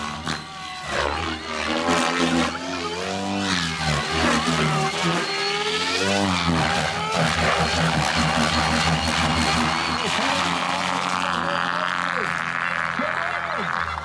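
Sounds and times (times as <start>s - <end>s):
rc helicopter rotor whine: 0.0s - 14.0s.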